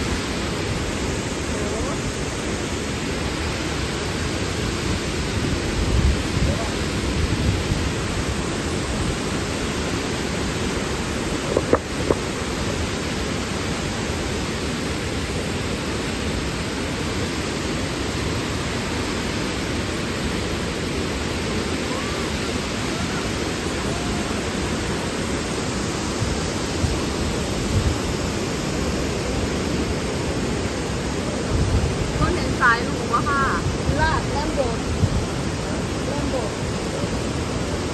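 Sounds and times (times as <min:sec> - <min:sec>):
waterfall rushing onto rock: 0:00.0 - 0:37.9.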